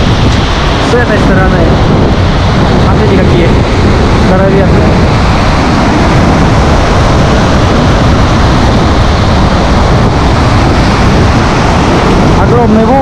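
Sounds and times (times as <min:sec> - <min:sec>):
heavy surf breaking: 0:00.0 - 0:13.0
wind buffeting microphone: 0:00.0 - 0:13.0.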